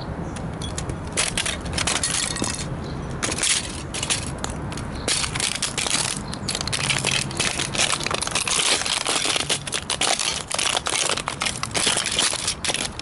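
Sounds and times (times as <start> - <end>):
toy car crunching underfoot: 0.6 - 13.0.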